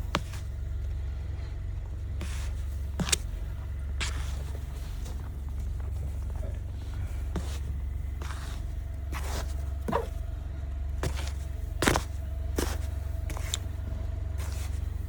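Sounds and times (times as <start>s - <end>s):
snow scraper scraping car: 0.0s - 0.8s, 1.4s - 15.0s
car engine idling: 0.0s - 15.0s.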